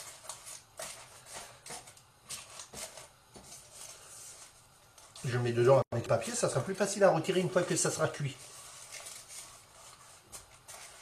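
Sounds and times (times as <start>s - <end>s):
baking paper crinkling: 0.0s - 11.0s.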